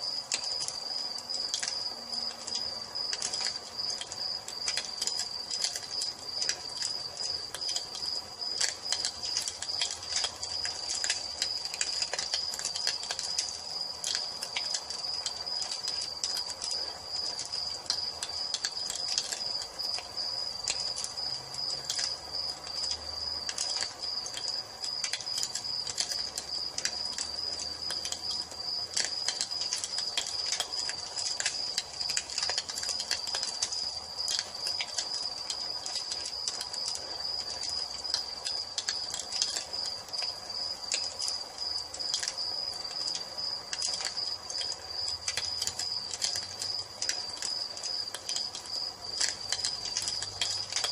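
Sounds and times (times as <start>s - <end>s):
crickets trilling: 0.0s - 50.9s
wood fire crackling: 0.0s - 50.9s.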